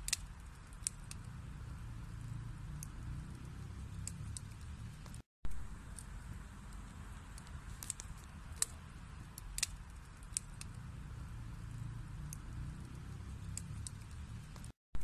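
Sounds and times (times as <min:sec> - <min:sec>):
wood fire crackling and popping: 0:00.0 - 0:14.8.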